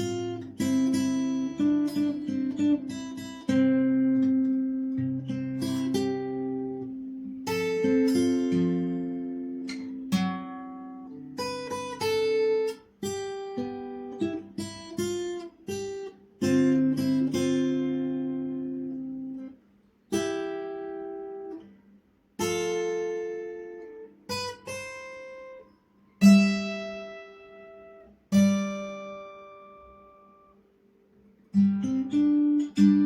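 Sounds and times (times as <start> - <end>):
acoustic guitar melody: 0.0 - 33.0.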